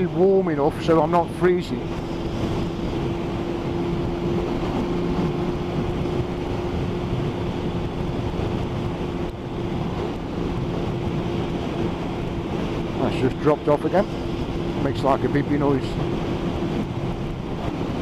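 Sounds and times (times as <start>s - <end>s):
motorcycle engine cruising: 0.0s - 18.0s
wind on microphone: 0.0s - 18.0s.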